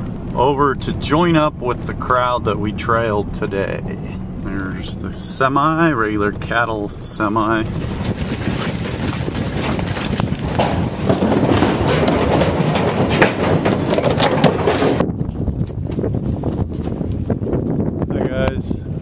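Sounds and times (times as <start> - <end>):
hooves banging on metal trailer: 0.0 - 17.4
steady rumble: 0.0 - 19.0.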